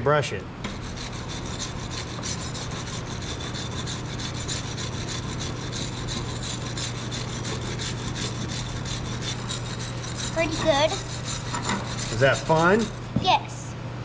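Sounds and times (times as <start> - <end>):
wire brush scrubbing metal: 0.7 - 13.2.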